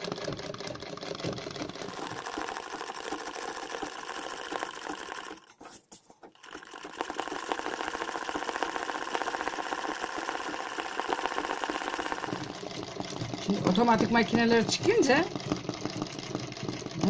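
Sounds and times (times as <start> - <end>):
sewing machine running fast: 0.0 - 17.0.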